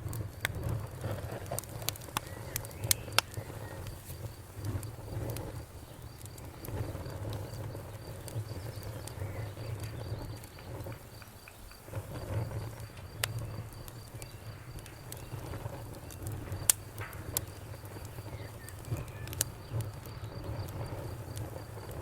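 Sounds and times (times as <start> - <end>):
sharp pops and snaps: 0.0 - 22.0
wood fire crackling: 0.0 - 22.0.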